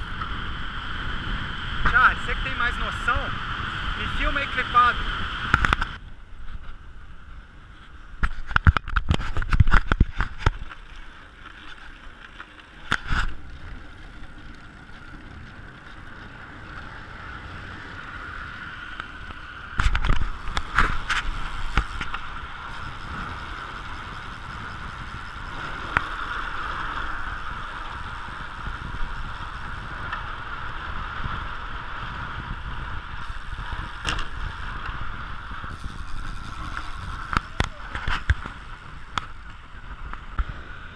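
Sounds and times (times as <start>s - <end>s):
wind rushing over microphone: 0.0s - 10.8s, 12.8s - 40.9s
tyre and road rumble: 0.0s - 40.9s.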